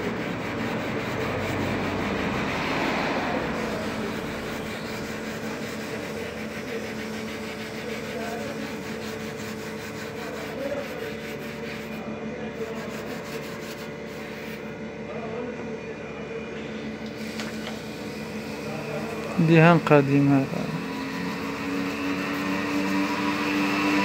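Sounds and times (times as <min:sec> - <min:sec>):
steel wool scrubbing wood: 0:00.0 - 0:14.6, 0:18.7 - 0:24.0
steady background hum: 0:00.0 - 0:24.0.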